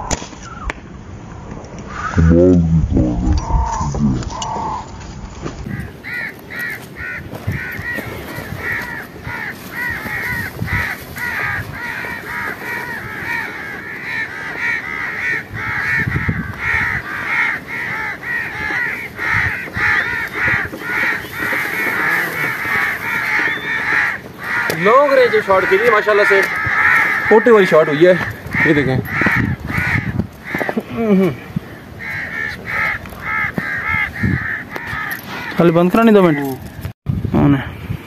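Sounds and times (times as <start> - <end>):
flock of birds calling: 3.0 - 36.9.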